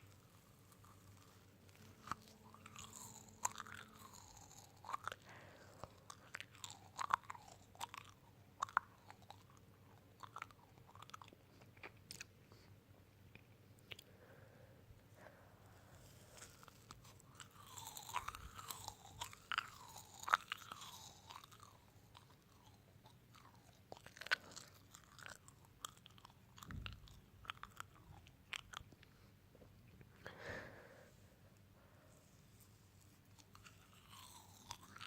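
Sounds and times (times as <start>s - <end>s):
crunching and chewing: 0.0s - 14.1s, 15.7s - 30.0s, 33.0s - 35.0s.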